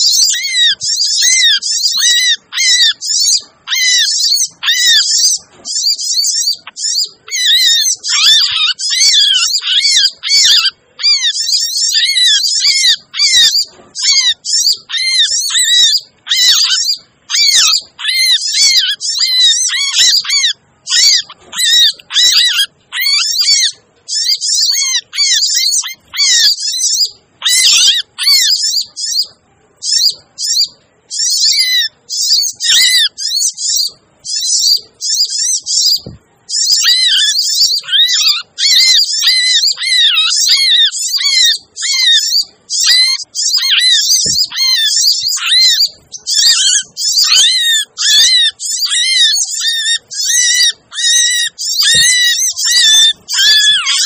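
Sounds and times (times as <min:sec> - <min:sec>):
birds chirping and twittering: 0:00.0 - 0:54.0.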